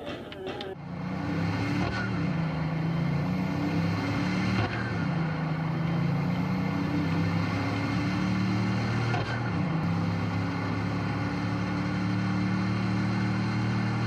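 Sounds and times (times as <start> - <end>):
video game car engine: 0.0 - 14.0.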